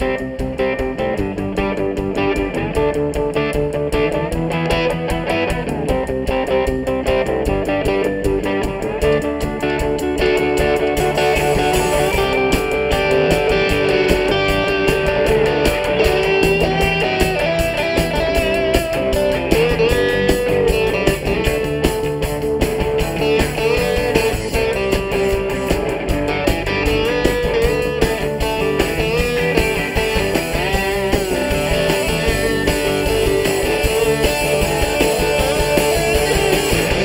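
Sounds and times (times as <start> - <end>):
bass guitar: 0.0 - 37.0
drums: 0.0 - 37.0
electric dobro sliding: 0.0 - 37.0
electric guitar: 0.0 - 37.0.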